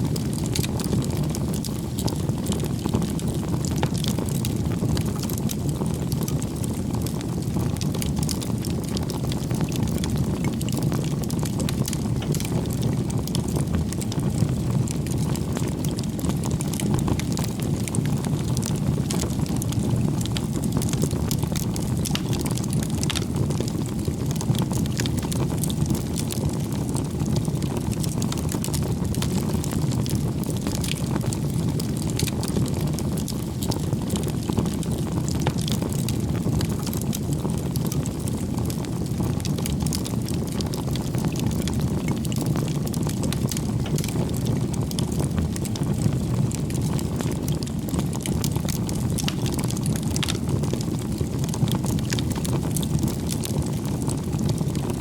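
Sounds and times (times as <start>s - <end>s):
wood crackling and popping: 0.0s - 55.0s
bonfire flames rushing: 0.1s - 55.0s.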